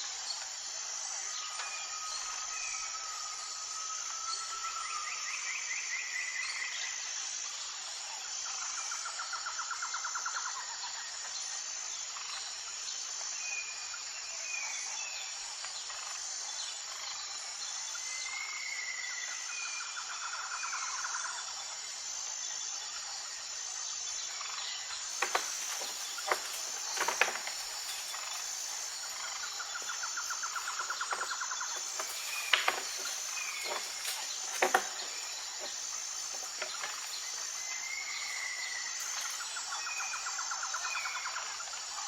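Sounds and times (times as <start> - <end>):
insect chorus: 0.0 - 42.0.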